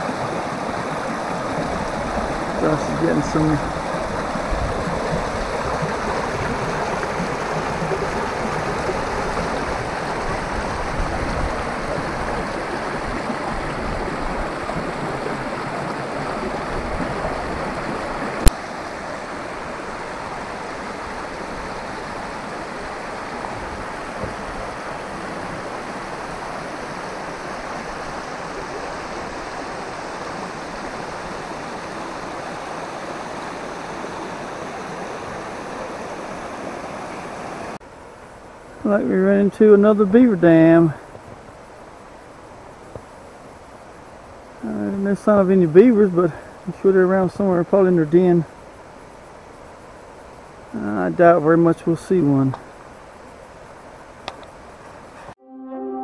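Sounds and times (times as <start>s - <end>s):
creek rushing over stones: 0.0s - 55.4s.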